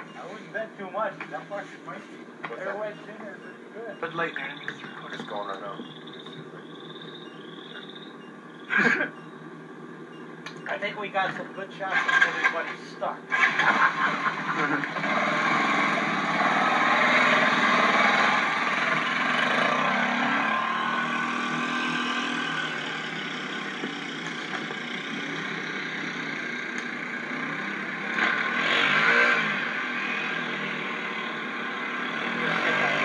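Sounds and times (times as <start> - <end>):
off-road vehicle engine revving: 2.5 - 9.4, 11.8 - 33.0.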